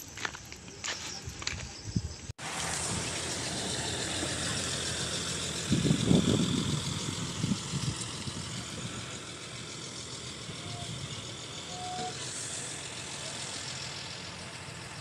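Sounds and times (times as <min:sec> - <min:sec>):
city bus engine driving past: 0:02.4 - 0:15.0.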